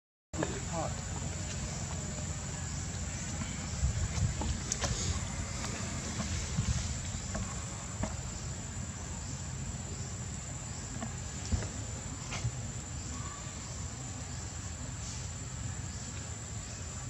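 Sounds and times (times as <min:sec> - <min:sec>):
high-pitched insect chorus: 0:00.4 - 0:17.0.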